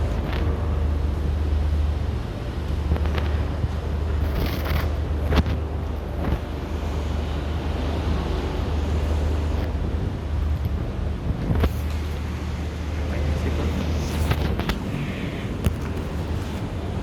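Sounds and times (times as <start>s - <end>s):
air conditioner units humming: 0.0s - 17.0s.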